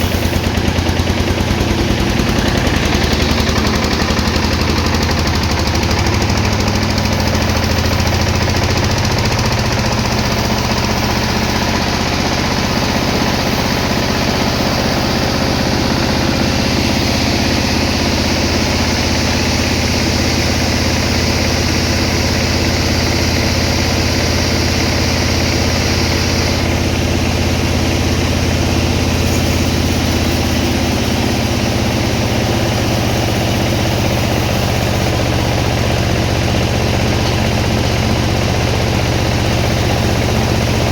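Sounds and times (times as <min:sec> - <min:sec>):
sawmill machinery engine hum: 0:00.0 - 0:40.9.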